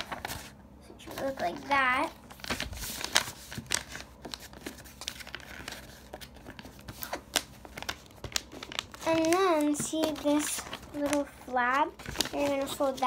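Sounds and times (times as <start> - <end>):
paper rustling and crackling: 0.0 - 13.0.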